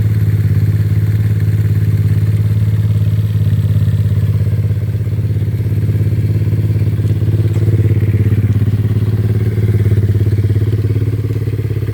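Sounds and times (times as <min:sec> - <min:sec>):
small motorcycle engine running: 0:00.0 - 0:11.9.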